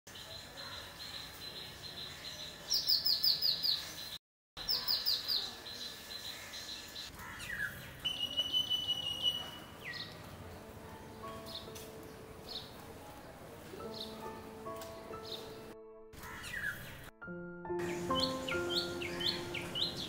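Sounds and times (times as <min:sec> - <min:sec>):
small birds chirping: 0:00.1 - 0:17.1, 0:17.8 - 0:20.0.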